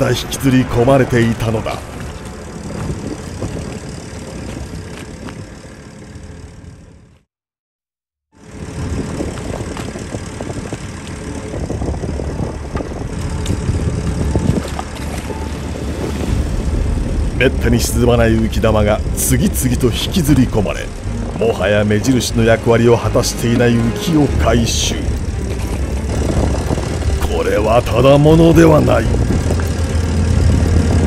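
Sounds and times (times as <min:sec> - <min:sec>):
boat engine running: 0:00.0 - 0:07.3, 0:08.4 - 0:31.0.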